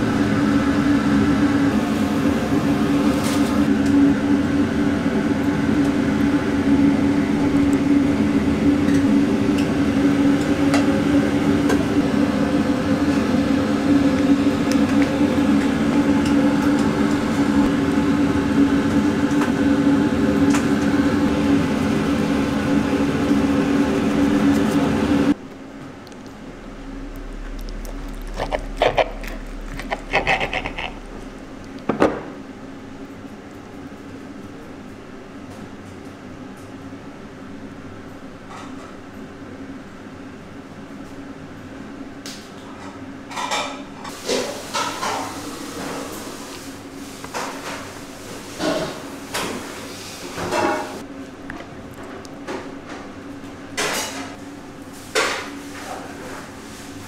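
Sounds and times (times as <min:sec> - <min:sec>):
machine hum with low drone: 0:00.0 - 0:56.9.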